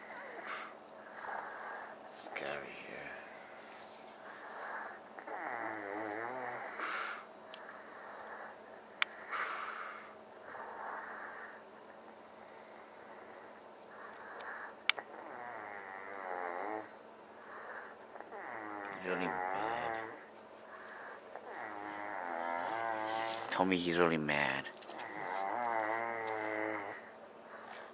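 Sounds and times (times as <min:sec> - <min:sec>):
man snoring: 0:00.0 - 0:11.6, 0:12.3 - 0:27.9.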